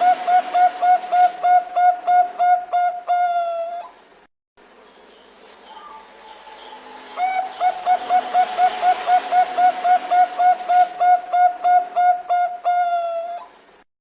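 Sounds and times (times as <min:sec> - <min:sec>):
dove cooing: 0:00.0 - 0:04.0, 0:05.7 - 0:13.6.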